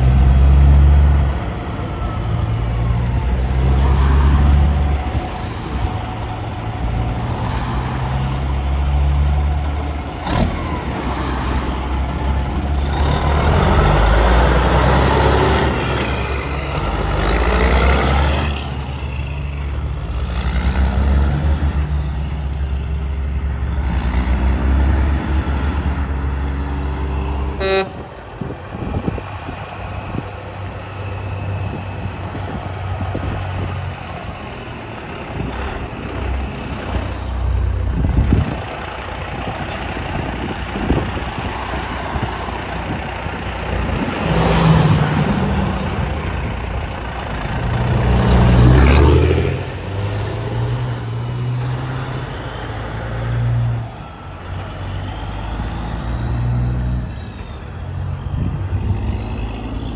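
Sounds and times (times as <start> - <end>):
trucks pulling away: 0.0 - 59.9.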